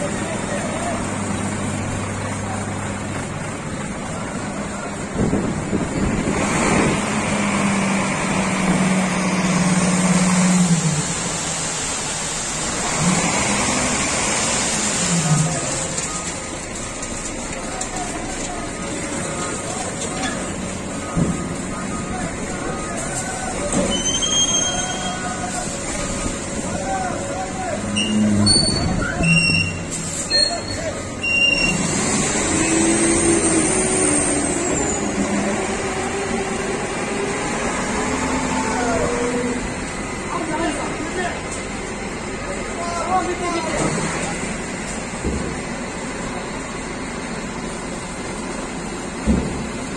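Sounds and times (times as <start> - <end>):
dense mechanical noise: 0.0 - 49.9
diesel engines running: 0.0 - 49.9
truck unloading asphalt: 0.0 - 49.9.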